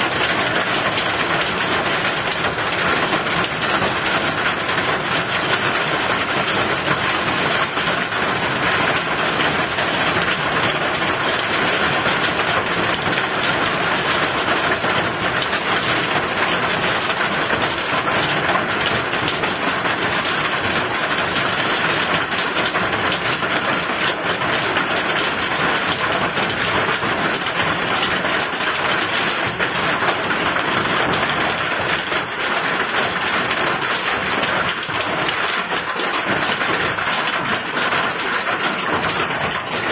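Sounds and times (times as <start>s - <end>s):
hail falling heavily: 0.0s - 39.9s.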